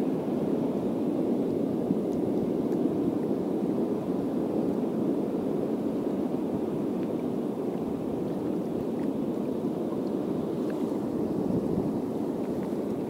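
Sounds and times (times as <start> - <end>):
sea water rushing around rocks: 0.0 - 13.0.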